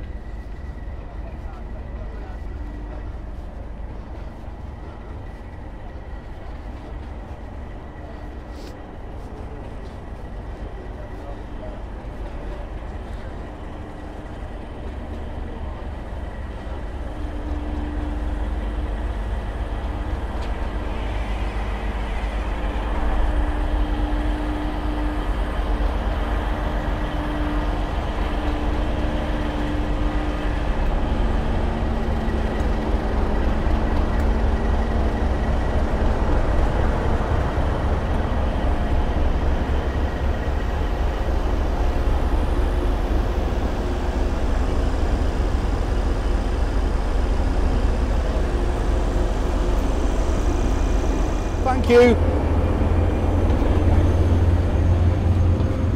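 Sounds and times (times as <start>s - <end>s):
diesel locomotive engine idling: 0.0s - 55.9s.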